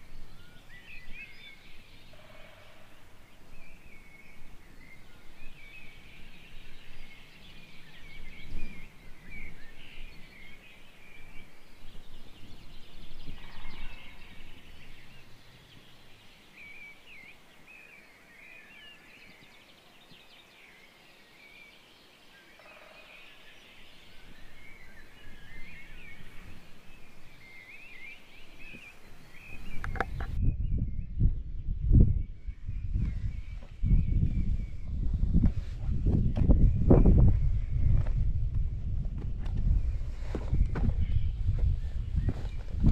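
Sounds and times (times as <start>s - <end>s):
wind rumble on microphone: 0.0s - 17.2s, 23.5s - 42.9s
birds chirping and trilling: 0.0s - 42.9s.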